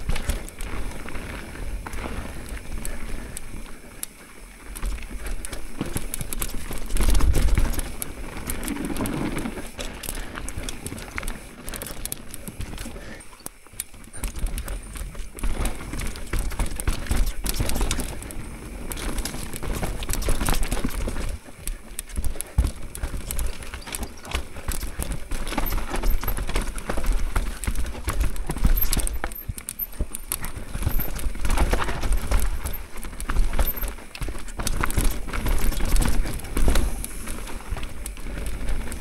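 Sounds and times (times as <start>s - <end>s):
bike clattering over rough ground: 0.0s - 39.0s.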